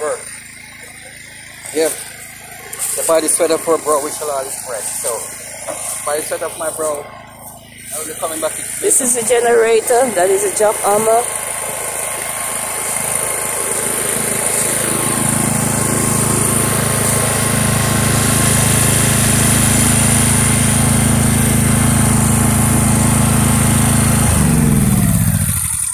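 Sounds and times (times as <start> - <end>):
portable generator running: 0.0 - 25.9.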